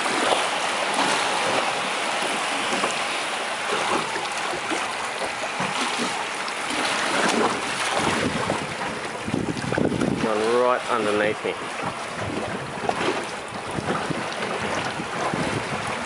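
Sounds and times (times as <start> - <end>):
seawater sloshing against boat hull: 0.0 - 16.0.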